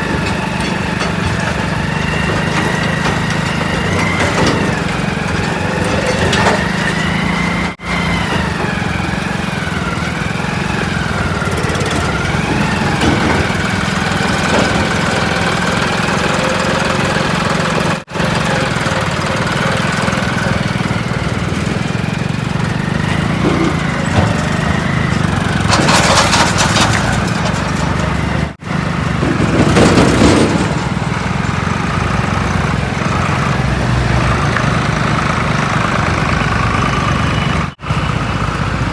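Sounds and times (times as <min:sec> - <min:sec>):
rushing scraping burst: 0:00.0 - 0:35.8
heavy diesel machinery running: 0:00.0 - 0:38.9.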